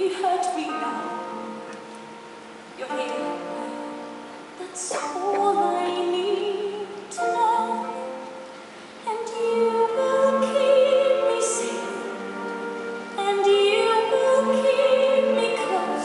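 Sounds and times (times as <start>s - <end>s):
woman singing a ballad: 0.0s - 1.7s, 2.8s - 16.0s
orchestral accompaniment: 0.4s - 16.0s.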